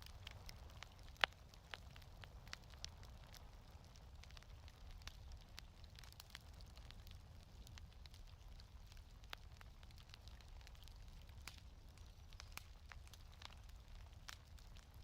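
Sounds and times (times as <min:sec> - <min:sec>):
faint fireplace crackling: 0:00.0 - 0:15.0.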